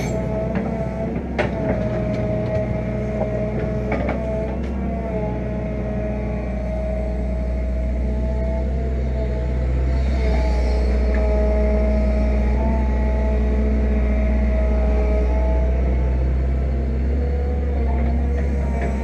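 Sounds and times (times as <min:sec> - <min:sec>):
excavator diesel engine droning: 0:00.0 - 0:19.0
excavator whine: 0:00.0 - 0:19.0.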